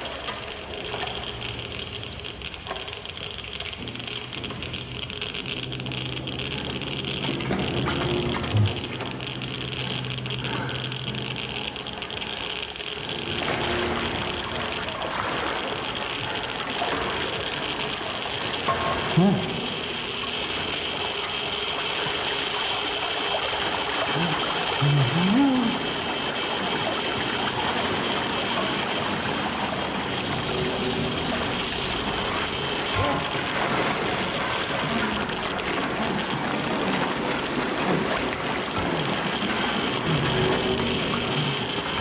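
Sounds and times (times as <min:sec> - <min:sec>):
droning film score: 0:00.0 - 0:42.0
water trickling and sloshing: 0:00.0 - 0:42.0.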